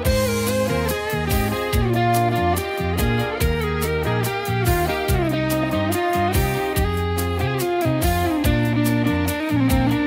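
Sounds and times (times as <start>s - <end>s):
song with drum beat and bass: 0.0s - 10.0s.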